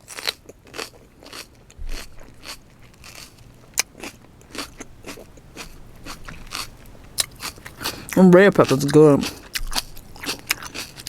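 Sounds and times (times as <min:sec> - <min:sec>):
crisp chewing crunches: 0:00.0 - 0:11.0.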